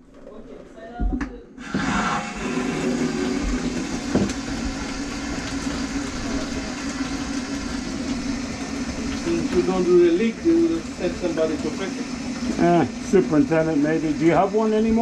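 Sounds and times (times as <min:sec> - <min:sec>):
drain-cleaning machine running: 0:01.6 - 0:15.0.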